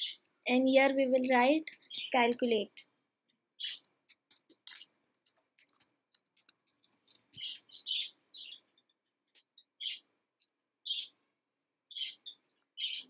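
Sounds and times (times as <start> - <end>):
bird chirping: 0.0 - 2.6, 3.3 - 13.0.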